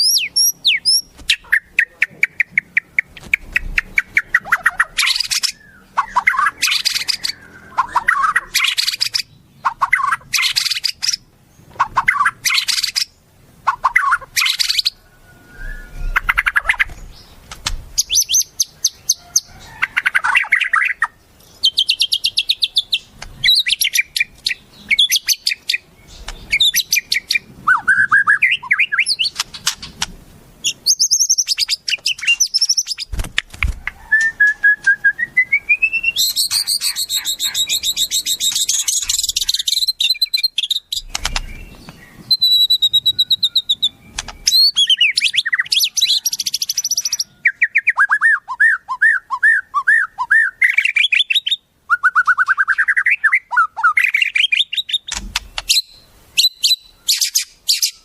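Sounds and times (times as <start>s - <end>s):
songbird song: 0.0s - 58.0s.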